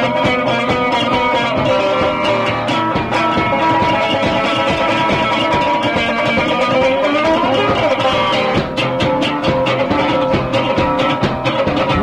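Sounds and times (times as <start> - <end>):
electric guitar sliding notes: 0.0 - 12.0
simple drum beat: 0.0 - 12.0.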